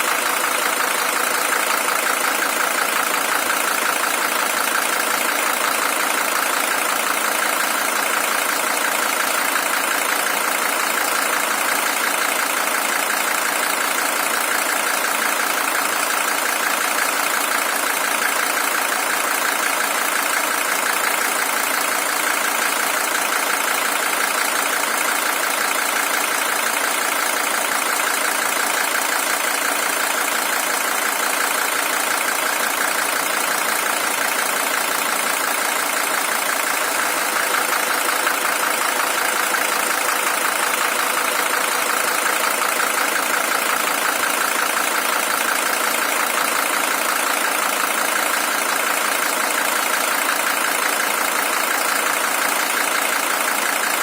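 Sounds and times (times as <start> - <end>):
diesel engine idling clatter: 0.0 - 54.0.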